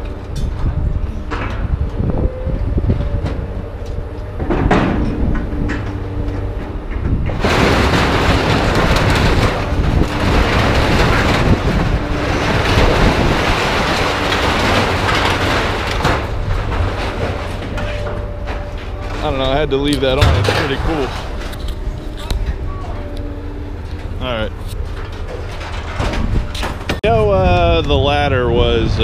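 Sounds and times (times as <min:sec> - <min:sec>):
heavy engine rumbling: 0:00.0 - 0:29.0
rattling and knocking: 0:00.0 - 0:29.0.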